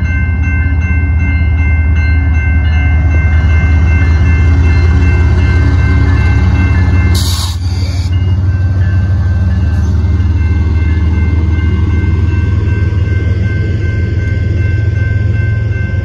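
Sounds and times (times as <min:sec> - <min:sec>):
diesel locomotive passing: 0:00.0 - 0:16.0.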